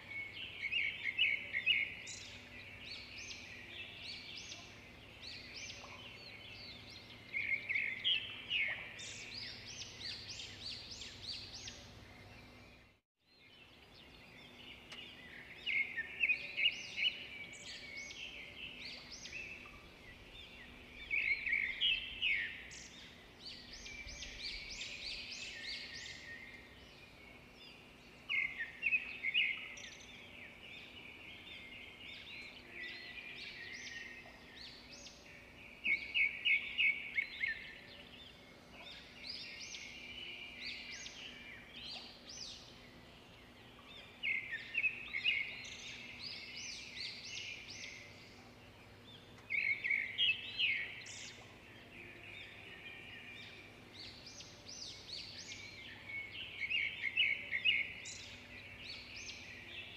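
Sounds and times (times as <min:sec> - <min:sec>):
faint background noise: 0:00.0 - 0:59.9
songbird chirping phrase: 0:00.0 - 0:59.9.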